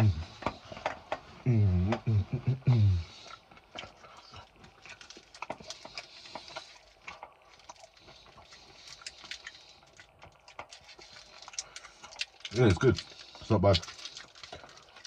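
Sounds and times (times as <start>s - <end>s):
person chewing crunchy food: 2.8s - 15.0s.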